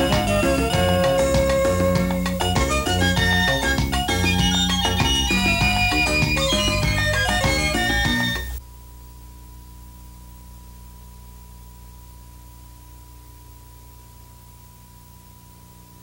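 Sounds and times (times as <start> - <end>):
low electrical hum: 0.0 - 16.0
videotape hiss: 0.0 - 16.0.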